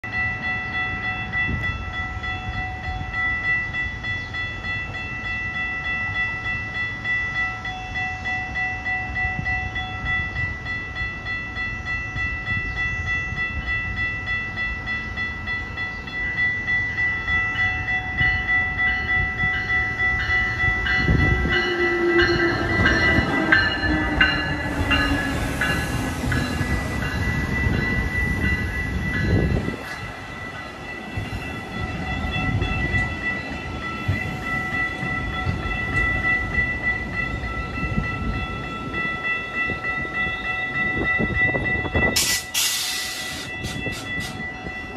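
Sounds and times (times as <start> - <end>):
train passing: 0.0 - 44.9
warning bell ringing: 0.0 - 44.9.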